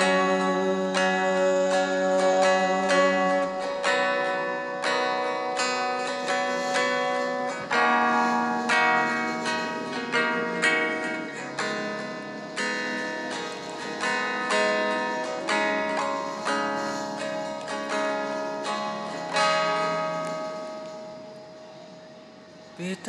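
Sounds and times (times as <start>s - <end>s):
slow pop ballad instrumental: 0.0s - 21.4s.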